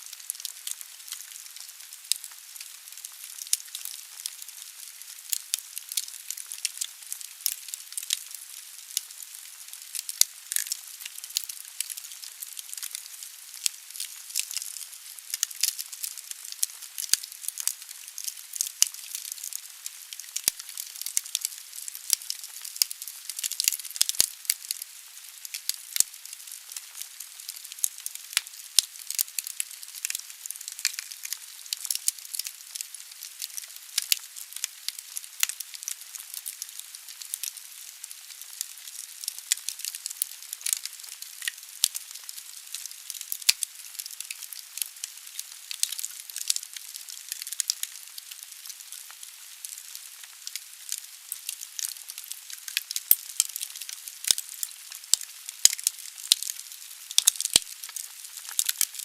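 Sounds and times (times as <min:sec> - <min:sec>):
burning logs crackling and popping: 0:00.1 - 0:59.0.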